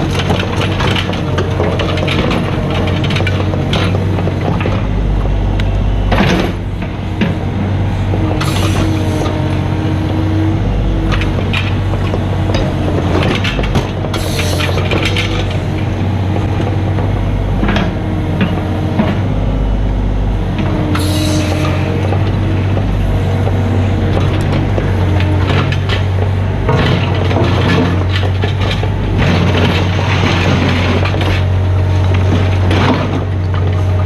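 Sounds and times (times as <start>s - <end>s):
diesel engine running: 0.0s - 34.0s
engine whine: 0.0s - 34.0s.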